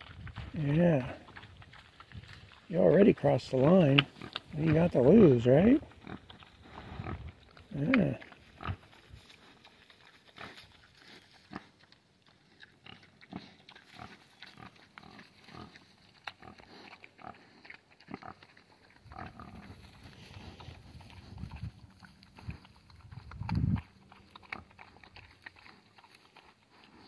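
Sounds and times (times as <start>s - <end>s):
pig munching acorns: 0.0s - 27.0s.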